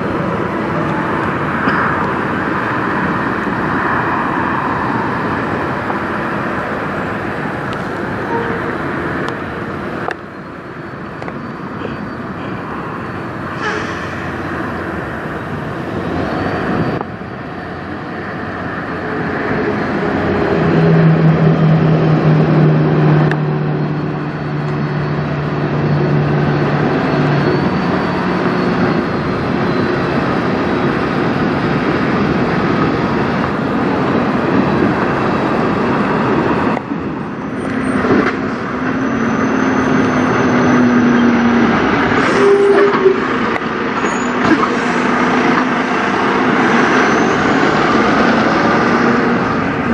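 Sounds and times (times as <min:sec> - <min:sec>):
diesel truck engines running: 0:00.0 - 0:49.9
tyre and road noise: 0:00.0 - 0:49.9.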